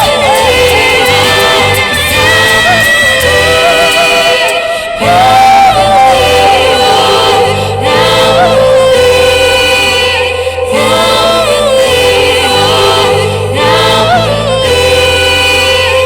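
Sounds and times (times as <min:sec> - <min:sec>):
low bass notes: 0:00.0 - 0:16.0
wordless voices singing in harmony: 0:00.0 - 0:16.0.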